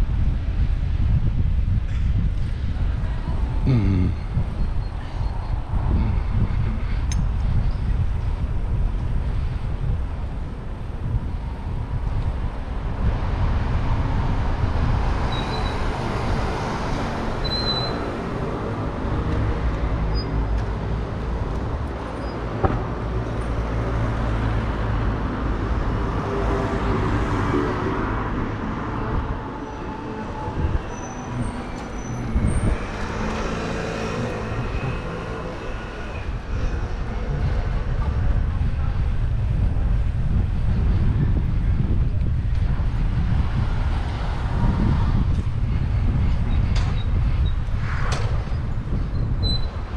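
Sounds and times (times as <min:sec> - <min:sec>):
rumble of street traffic: 0:00.0 - 0:49.9.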